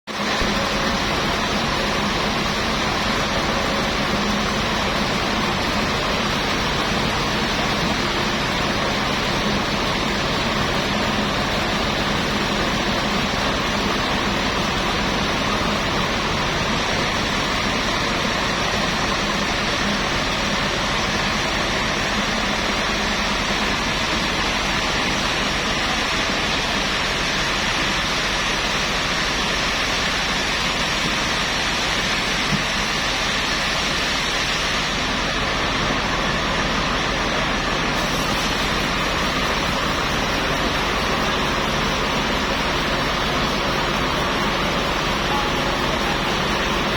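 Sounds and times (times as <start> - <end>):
sawmill machinery running: 0.1 - 46.9.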